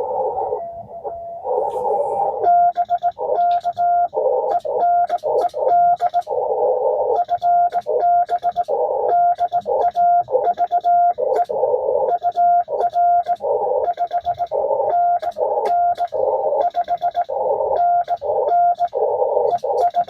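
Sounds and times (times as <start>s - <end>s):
morse code tone: 0.0s - 20.0s
radio band hiss: 0.0s - 20.0s.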